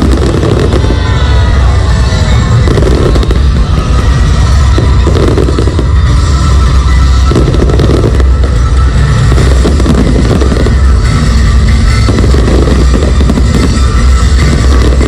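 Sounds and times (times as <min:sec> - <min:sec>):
fireworks bursting and crackling: 0:00.0 - 0:15.0
loud music: 0:00.0 - 0:15.0.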